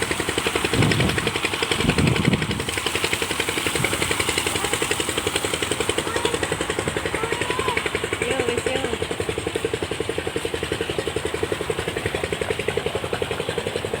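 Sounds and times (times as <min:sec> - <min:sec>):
engine chugging steadily: 0:00.0 - 0:14.0.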